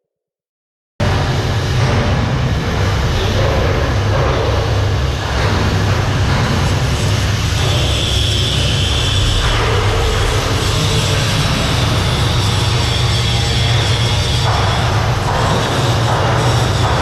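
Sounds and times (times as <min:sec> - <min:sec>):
engine room machinery rumbling: 0:01.0 - 0:17.0.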